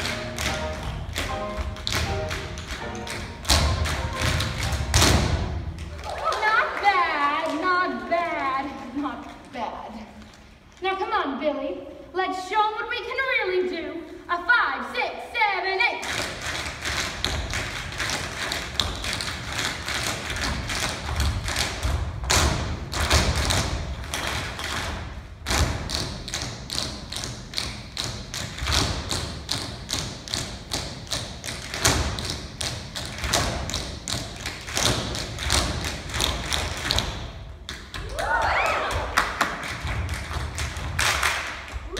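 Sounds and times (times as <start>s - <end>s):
tap dancing on stage floor: 0.0s - 8.6s, 16.0s - 41.9s.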